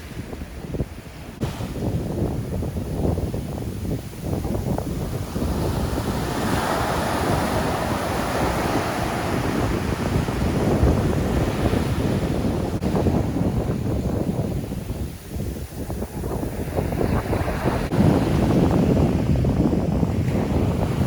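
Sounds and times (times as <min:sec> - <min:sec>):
sea waves breaking on shore: 0:00.0 - 0:21.0
wind buffeting microphone: 0:00.0 - 0:21.0.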